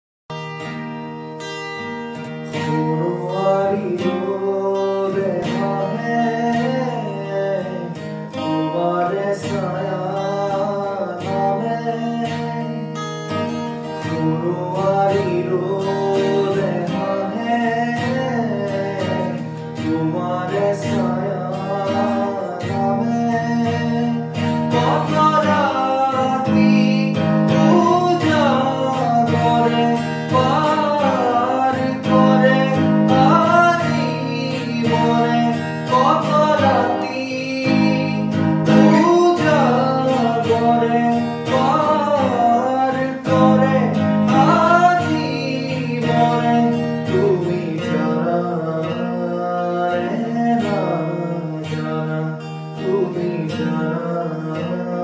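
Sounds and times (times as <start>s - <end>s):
strummed acoustic guitar: 0.3s - 55.0s
man singing: 2.2s - 55.0s.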